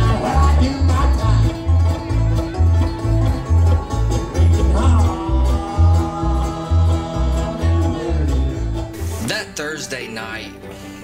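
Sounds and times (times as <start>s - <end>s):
upright bass walking notes: 0.0s - 10.7s
bluegrass band playing: 0.0s - 11.0s.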